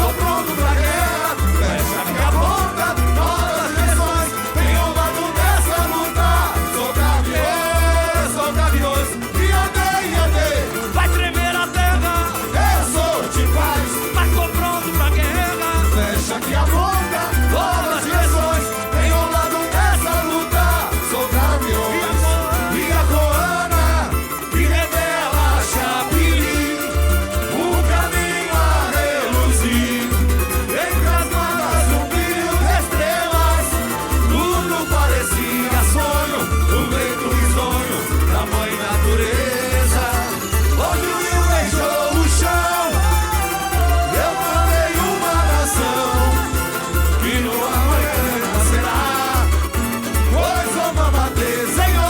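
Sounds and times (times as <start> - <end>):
bass drums beating: 0.0 - 52.0
people singing: 0.0 - 52.0
samba music played live: 0.0 - 52.0
smaller percussion: 0.0 - 52.0.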